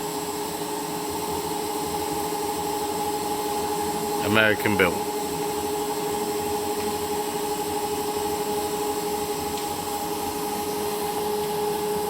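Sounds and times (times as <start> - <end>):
machine whine with hiss: 0.0 - 12.0.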